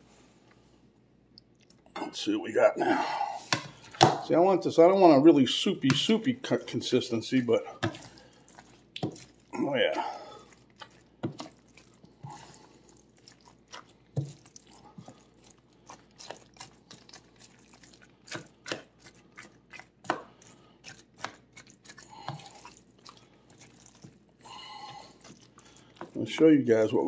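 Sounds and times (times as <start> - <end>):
wet squishes of stirred food: 0.4 - 27.0.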